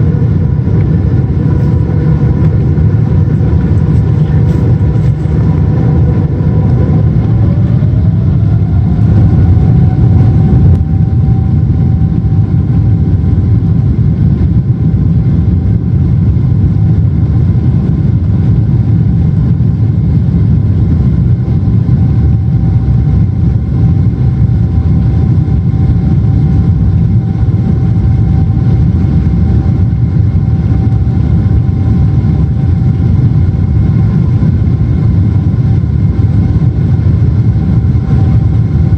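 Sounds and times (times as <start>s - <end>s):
airplane cabin engine rumble: 0.0s - 38.9s
steady engine tone: 0.0s - 38.9s.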